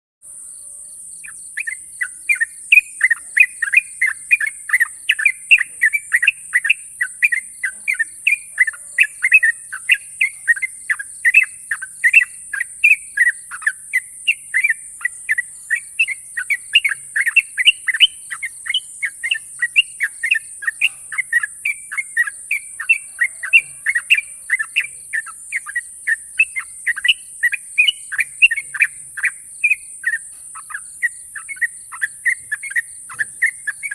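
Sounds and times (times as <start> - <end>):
bird singing fast chirping notes: 0.5 - 33.9.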